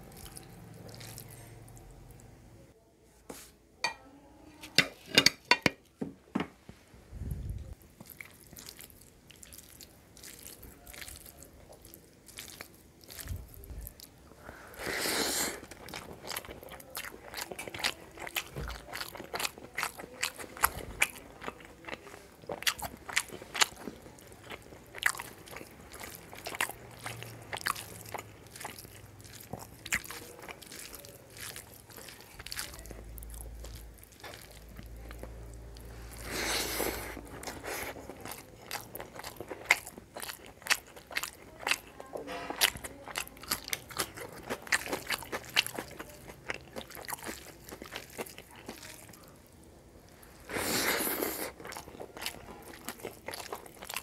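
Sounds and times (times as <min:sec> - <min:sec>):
chewing and crunching food: 0:00.0 - 0:02.3, 0:07.7 - 0:54.0.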